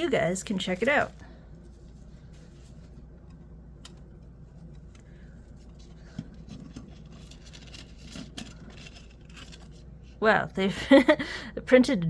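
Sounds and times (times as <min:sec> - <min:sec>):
low steady hum: 0:00.0 - 0:12.0
rustling: 0:00.2 - 0:10.2.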